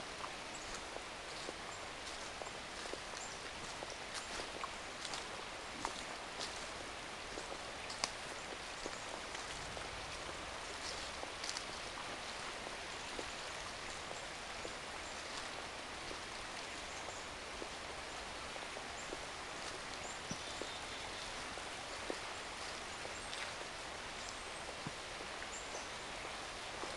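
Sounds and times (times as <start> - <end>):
stream running: 0.0 - 26.9
leaves and twigs crackling underfoot: 0.1 - 26.9.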